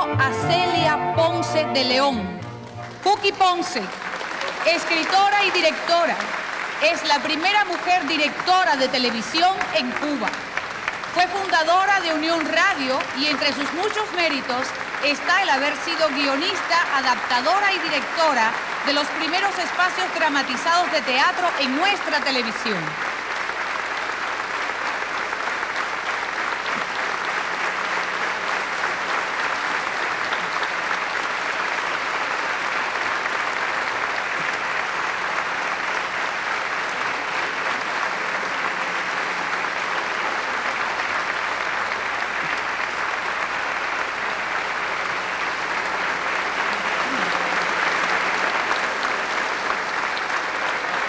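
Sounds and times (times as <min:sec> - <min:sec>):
audience applauding: 0:01.9 - 0:51.0.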